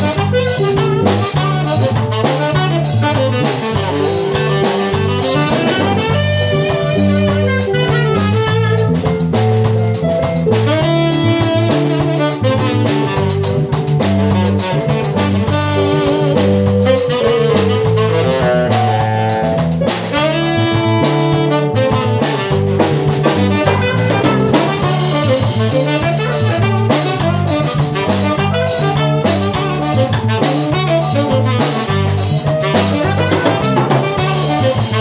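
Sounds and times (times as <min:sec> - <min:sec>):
bass line: 0:00.0 - 0:35.0
drum kit: 0:00.0 - 0:35.0
guitar: 0:00.0 - 0:35.0
keyboard: 0:00.0 - 0:35.0
saxophone: 0:00.0 - 0:35.0.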